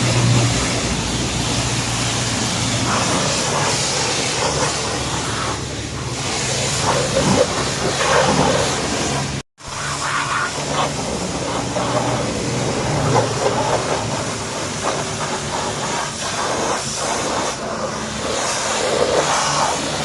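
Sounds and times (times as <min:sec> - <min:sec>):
spray hissing against car: 0:00.0 - 0:20.0.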